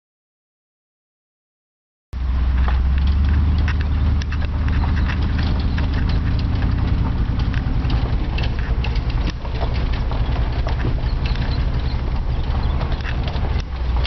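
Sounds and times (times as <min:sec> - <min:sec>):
motor droning: 0:02.2 - 0:14.0
rapid knocks and rattles: 0:02.5 - 0:14.0.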